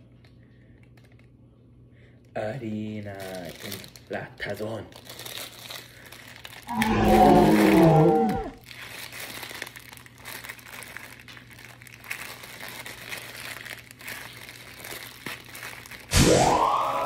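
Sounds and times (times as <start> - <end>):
plastic bag crinkling: 0.2 - 1.3, 2.5 - 16.1.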